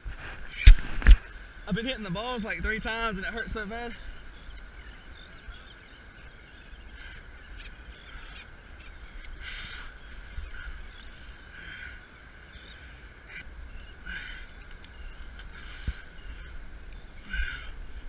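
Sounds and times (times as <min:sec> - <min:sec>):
gulls calling: 0:00.2 - 0:18.0.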